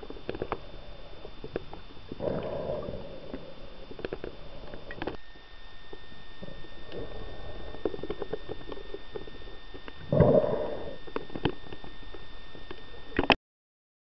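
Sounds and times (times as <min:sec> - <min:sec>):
faint high whine: 0:00.0 - 0:13.4
muffled underwater rumble: 0:00.0 - 0:13.4.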